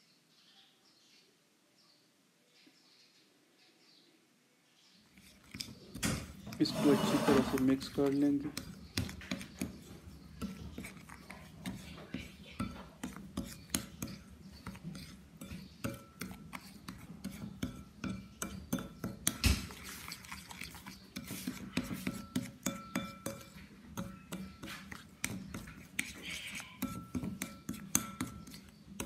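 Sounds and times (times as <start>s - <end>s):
spoon scraping ceramic plate: 5.1s - 29.0s.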